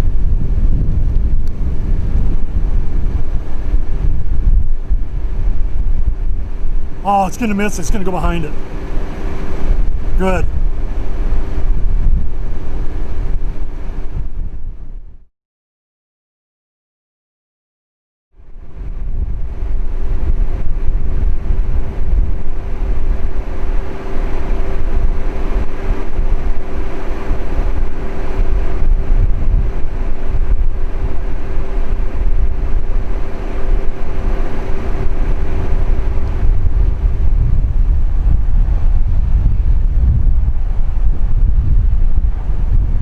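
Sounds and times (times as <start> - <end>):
steady hum: 0.0 - 15.2, 18.4 - 43.0
wind buffeting microphone: 0.0 - 15.2, 18.4 - 43.0.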